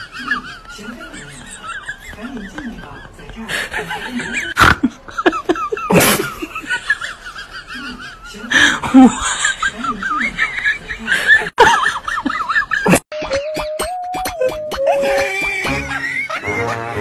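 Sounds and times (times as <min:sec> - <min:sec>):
people laughing: 0:00.0 - 0:17.0.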